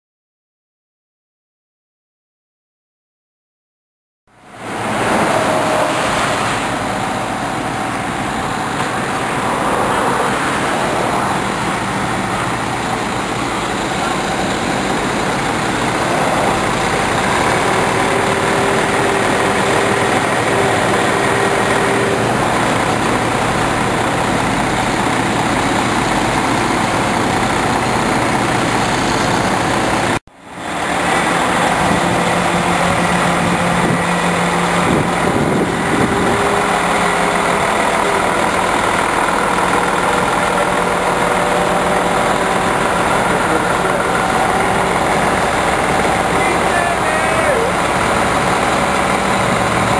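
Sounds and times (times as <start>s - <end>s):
heavy engine idling: 4.3s - 49.9s.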